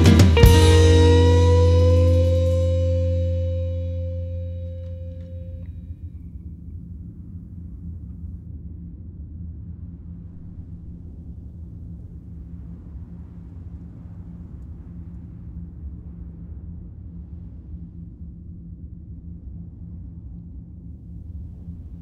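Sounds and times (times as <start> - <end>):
low rumbling drone: 0.0 - 22.0.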